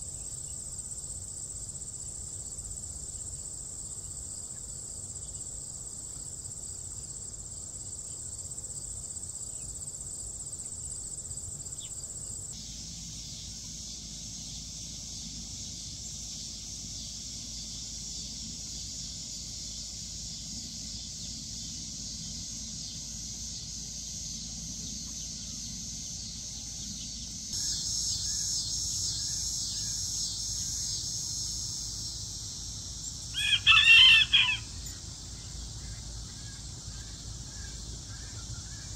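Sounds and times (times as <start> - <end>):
crickets and insects chirping: 0.0 - 38.9.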